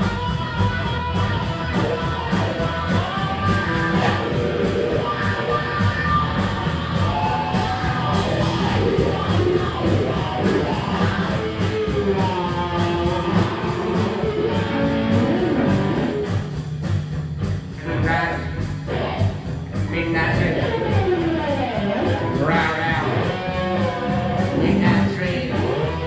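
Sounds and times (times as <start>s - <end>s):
electric guitars: 0.0s - 26.0s
live blues band playing: 0.0s - 26.0s.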